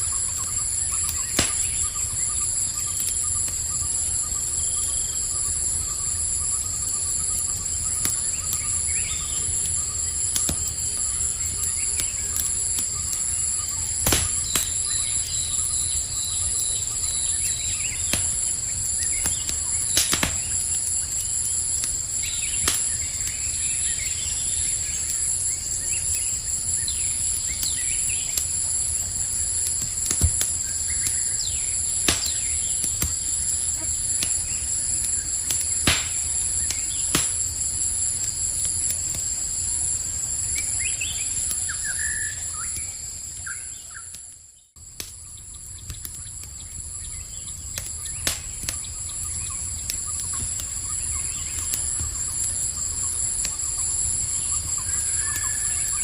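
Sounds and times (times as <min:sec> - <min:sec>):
campfire crackling: 0:00.0 - 0:56.0
night insects chorus: 0:00.0 - 0:56.0.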